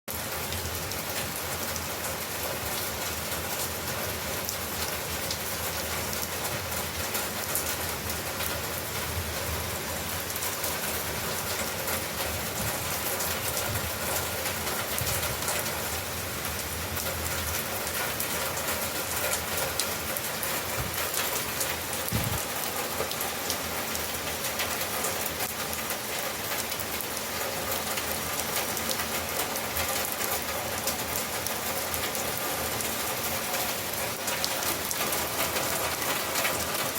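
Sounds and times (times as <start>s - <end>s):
heavy rain pouring: 0.1s - 36.9s.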